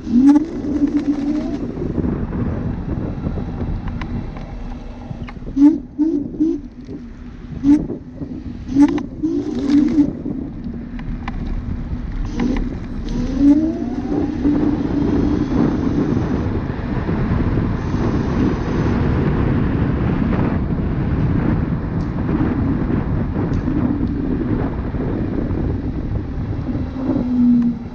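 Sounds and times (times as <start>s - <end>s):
rising whine: 0.0s - 27.9s
scooter tyre and road noise: 0.0s - 27.9s
wind buffeting microphone: 0.0s - 27.9s.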